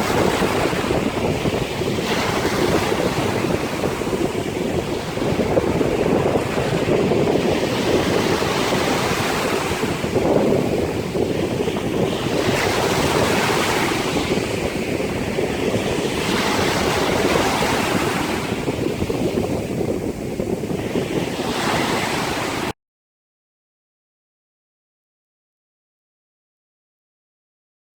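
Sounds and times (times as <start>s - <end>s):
surf rushing: 0.0s - 22.7s
wind buffeting microphone: 0.0s - 22.7s.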